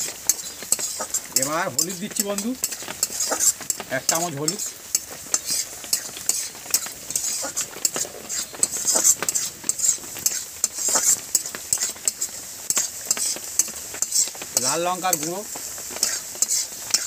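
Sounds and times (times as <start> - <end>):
onions sizzling in hot oil: 0.0 - 17.0
spatula scraping a pan: 0.0 - 17.0.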